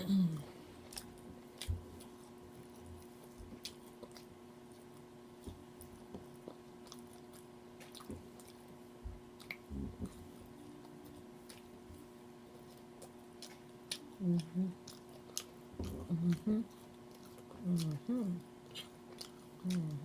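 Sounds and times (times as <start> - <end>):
chewing and lip smacking: 0.3 - 20.0.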